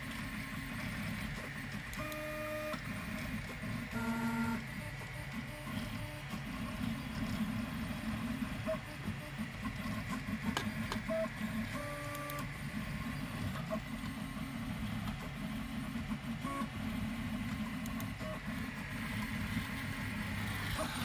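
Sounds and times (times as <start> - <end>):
stepper motors humming: 0.0 - 21.0.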